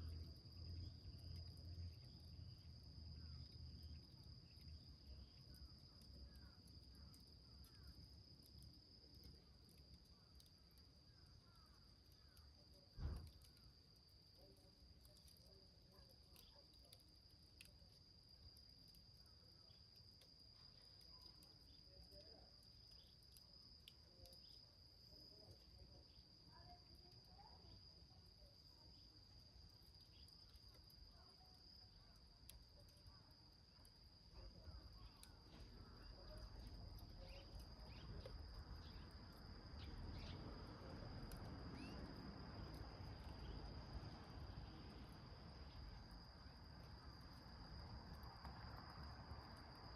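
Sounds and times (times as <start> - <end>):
crickets trilling: 0.0 - 49.9
wood fire crackling: 0.1 - 21.9, 29.3 - 49.4.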